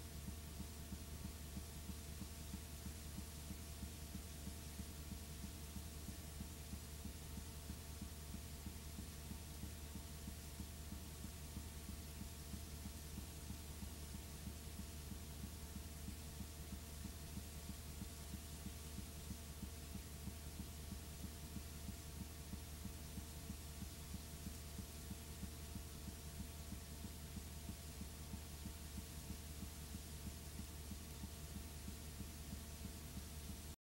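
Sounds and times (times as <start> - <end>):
faint hiss: 0.0 - 33.8
low electrical hum: 0.0 - 33.8.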